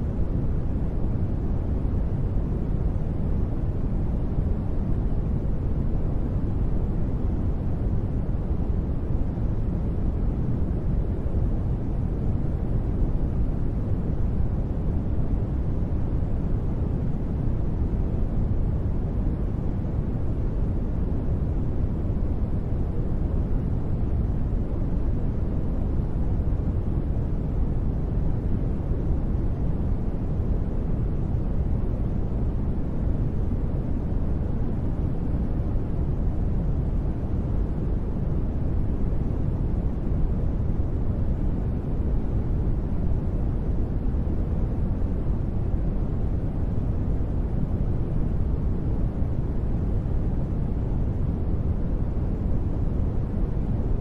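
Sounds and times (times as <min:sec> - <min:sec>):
deep rumbling brown noise: 0:00.0 - 0:54.0.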